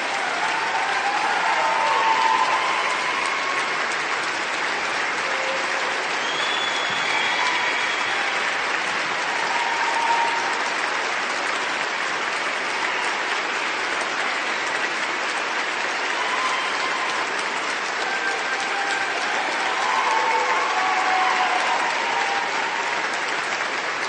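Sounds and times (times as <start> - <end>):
crowd applauding: 0.0 - 24.0.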